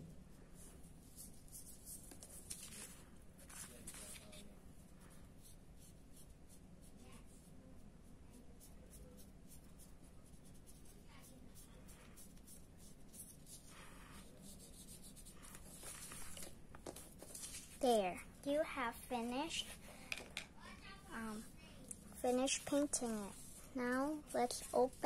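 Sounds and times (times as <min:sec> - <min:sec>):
paintbrush strokes on paper: 0:00.1 - 0:20.0, 0:20.6 - 0:25.0.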